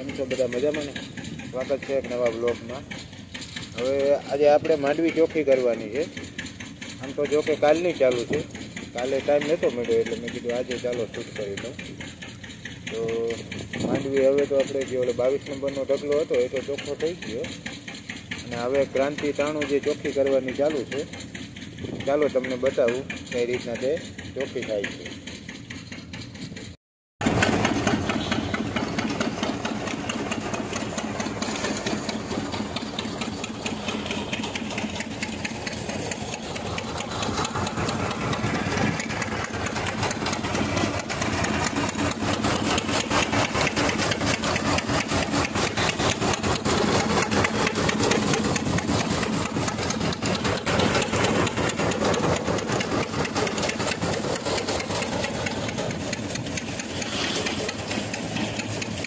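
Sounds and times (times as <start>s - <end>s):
cleaning machine rattling: 0.0s - 59.0s
stationary engine running: 0.0s - 59.0s.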